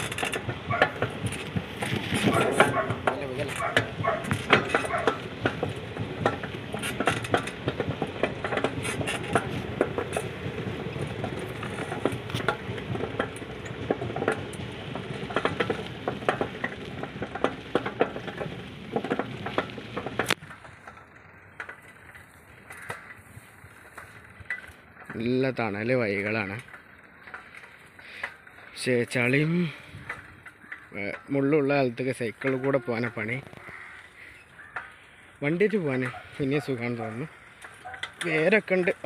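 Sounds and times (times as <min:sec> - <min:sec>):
bicycle rattling over dirt path: 0:00.0 - 0:39.0.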